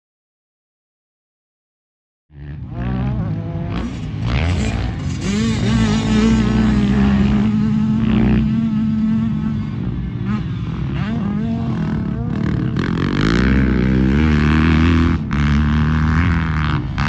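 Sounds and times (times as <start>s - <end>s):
dirt bike engines revving: 2.4s - 17.0s.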